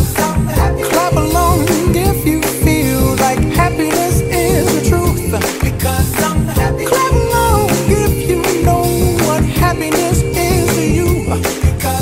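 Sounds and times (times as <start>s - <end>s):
pop song with sung vocals: 0.0s - 12.0s.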